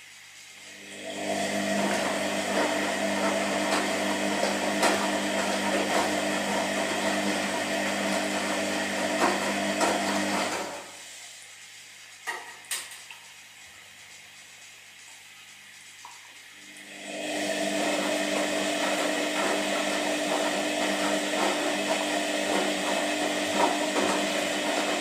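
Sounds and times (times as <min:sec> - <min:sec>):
washing machine motor humming: 0:00.5 - 0:25.0.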